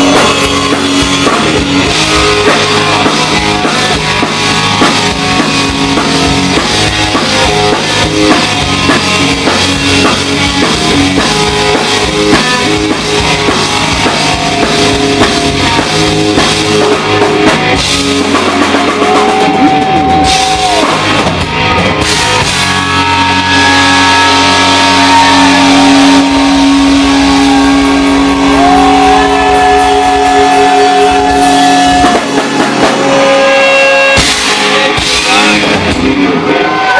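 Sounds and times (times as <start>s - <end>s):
electric guitar held bending notes: 0.0s - 36.9s
live rock band playing: 0.0s - 36.9s.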